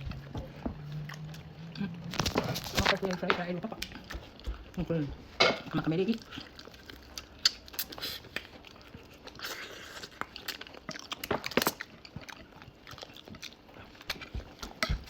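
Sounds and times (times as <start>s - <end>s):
food crunching while chewed: 0.0s - 5.0s, 5.7s - 15.0s.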